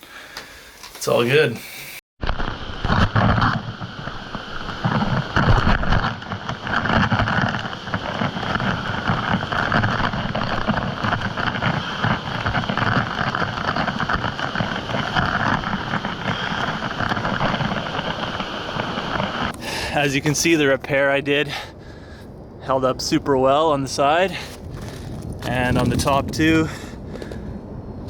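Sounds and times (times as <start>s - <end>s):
wind buffeting microphone: 4.7s - 28.0s.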